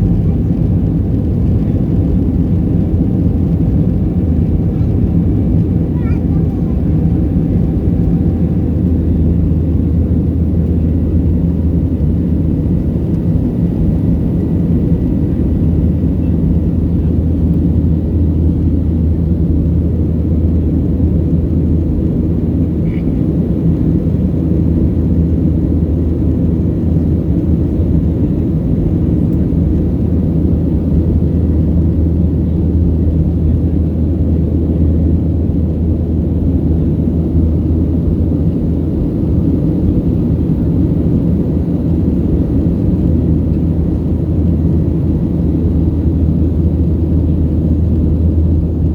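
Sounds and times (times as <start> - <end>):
jet engines and airflow in cabin: 0.0 - 48.9.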